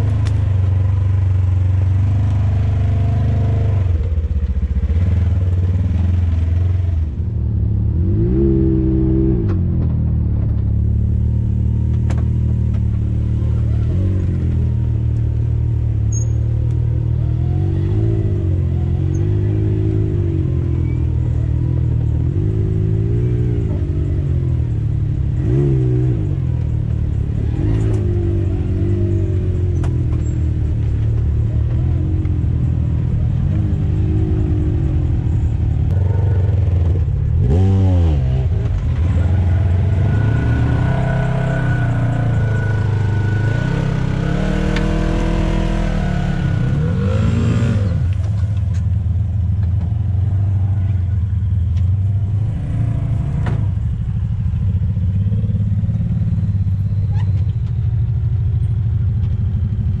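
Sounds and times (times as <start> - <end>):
utility vehicle engines revving: 0.0 - 60.0.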